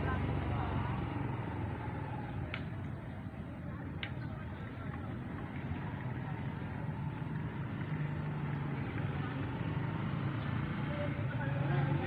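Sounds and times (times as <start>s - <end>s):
low engine hum: 0.0s - 12.0s
outdoor noise: 0.0s - 12.0s.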